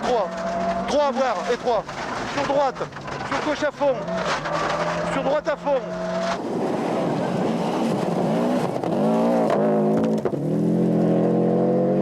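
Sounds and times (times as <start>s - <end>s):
rally car engine revving: 0.0s - 12.0s
tyre and road noise: 0.0s - 12.0s.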